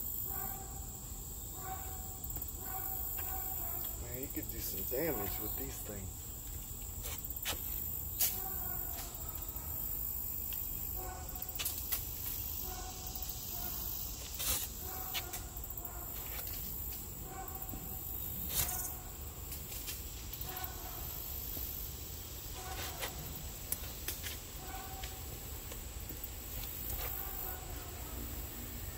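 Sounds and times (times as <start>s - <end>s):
insects buzzing: 0.0s - 28.9s.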